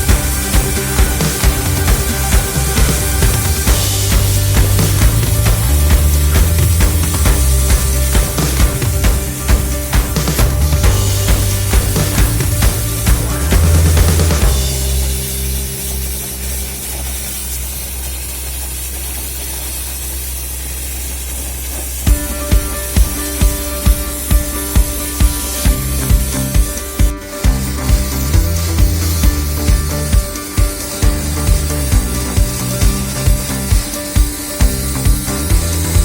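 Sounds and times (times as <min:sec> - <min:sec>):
hard-driving rock music: 0:00.0 - 0:17.4, 0:22.1 - 0:36.0
shotcrete spraying hiss: 0:00.0 - 0:36.0.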